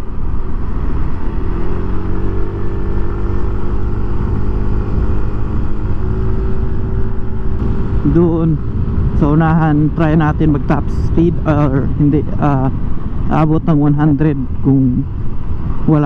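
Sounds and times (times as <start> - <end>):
motorcycle engine running: 0.0 - 13.1
wind rumble: 0.0 - 16.0.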